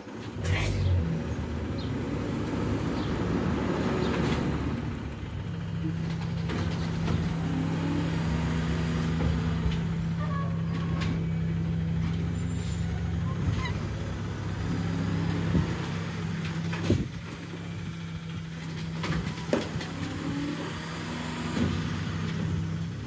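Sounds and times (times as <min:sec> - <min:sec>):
garbage truck engine hum: 0:00.0 - 0:23.0
hydraulic arm lifting bin: 0:00.0 - 0:23.0.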